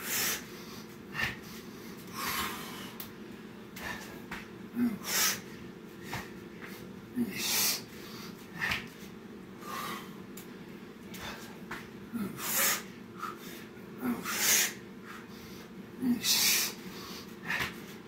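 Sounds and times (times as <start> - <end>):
man breathing hard: 0.0 - 18.0.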